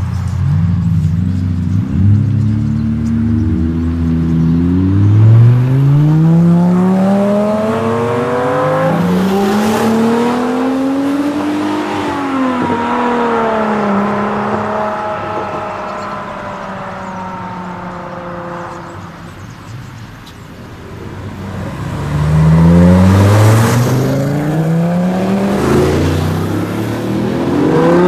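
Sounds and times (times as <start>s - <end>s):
sports car engines accelerating: 0.0s - 28.0s.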